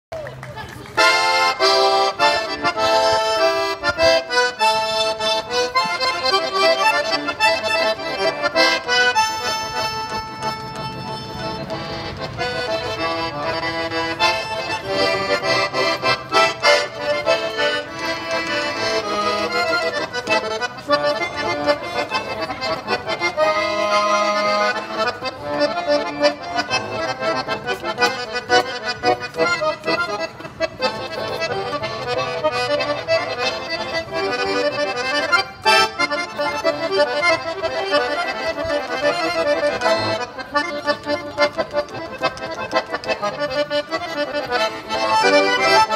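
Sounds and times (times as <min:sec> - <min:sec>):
button accordion playing: 0:01.0 - 0:45.9.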